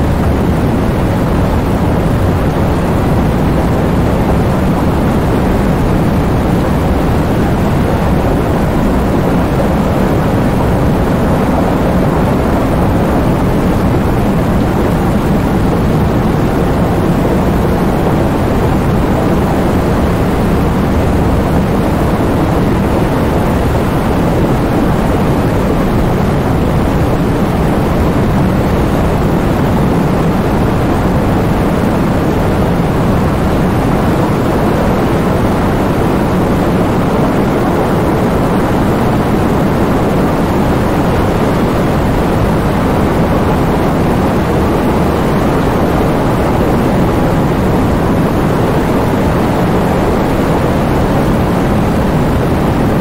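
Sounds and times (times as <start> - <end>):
heavy rain in strong wind: 0.0 - 53.0.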